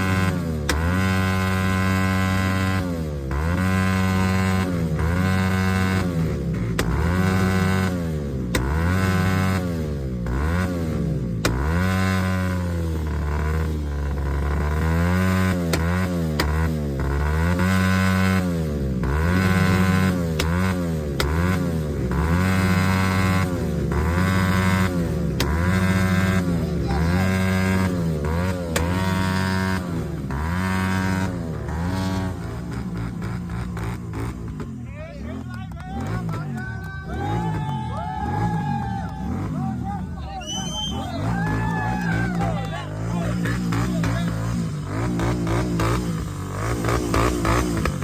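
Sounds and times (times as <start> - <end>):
exhaust cracks: 0.0 - 48.0
motorcycle engine revving: 0.0 - 48.0.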